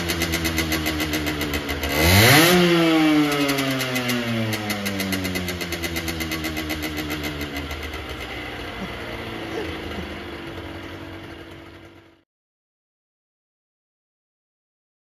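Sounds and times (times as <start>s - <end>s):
two-stroke engine idling: 0.0s - 12.2s.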